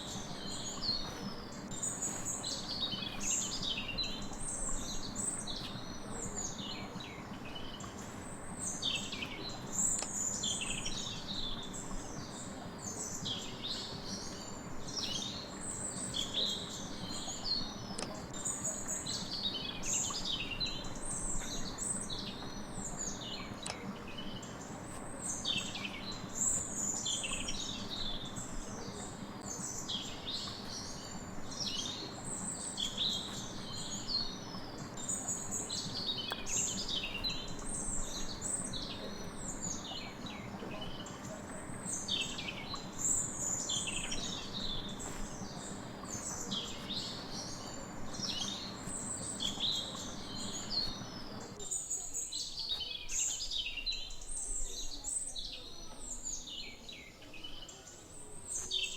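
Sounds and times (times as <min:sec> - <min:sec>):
steady low hum: 0:00.0 - 0:56.0
small birds chirping: 0:00.0 - 0:58.9.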